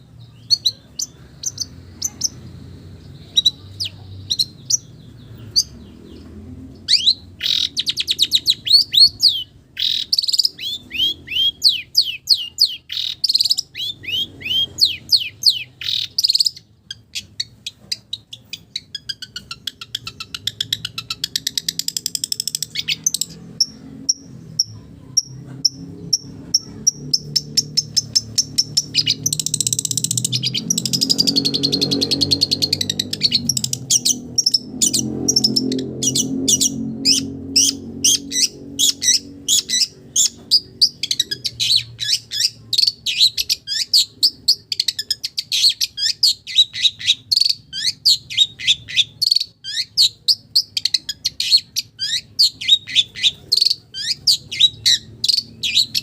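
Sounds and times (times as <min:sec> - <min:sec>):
bird fast dense chatter: 0:00.0 - 0:56.0
bird singing chirps and whistles: 0:06.9 - 0:23.4, 0:27.0 - 0:56.0.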